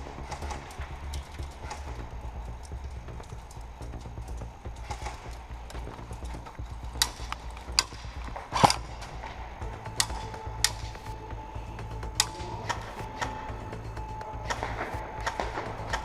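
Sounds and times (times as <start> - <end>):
low rumble of handling: 0.0 - 16.0.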